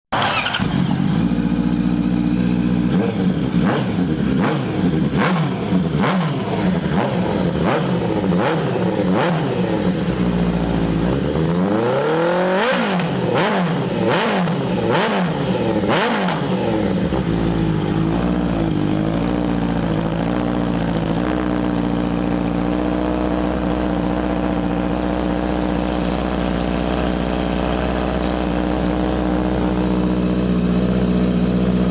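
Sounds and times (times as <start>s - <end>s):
motorcycle engine revving and popping: 0.1s - 31.9s
motorcycle engine idling: 0.2s - 31.9s.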